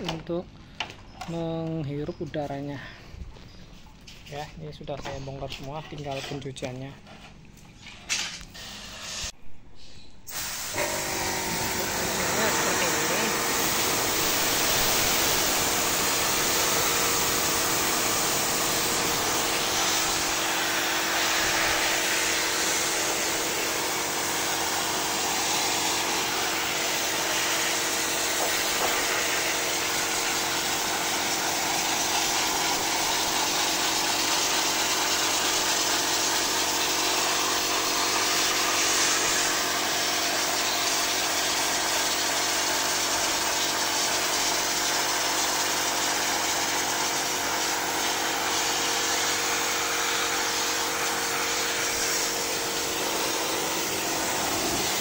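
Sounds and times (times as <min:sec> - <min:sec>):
water jet hissing on metal: 0:08.5 - 0:09.3, 0:10.3 - 0:55.0
pressure washer motor hum: 0:10.3 - 0:55.0.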